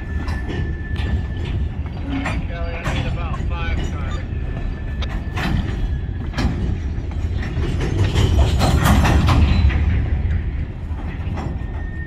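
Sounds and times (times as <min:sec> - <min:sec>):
freight cars rolling rumble: 0:00.0 - 0:12.0
wheels and couplers clanking: 0:00.0 - 0:12.0.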